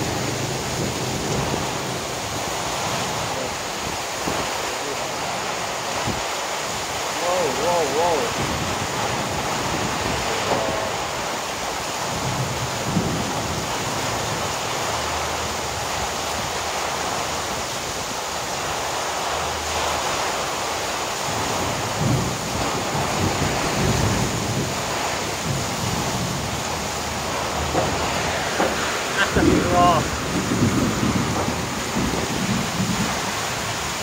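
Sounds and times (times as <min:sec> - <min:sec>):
heavy rain hissing: 0:00.0 - 0:34.0
low rumbling: 0:00.0 - 0:34.0
strong wind: 0:00.0 - 0:34.0.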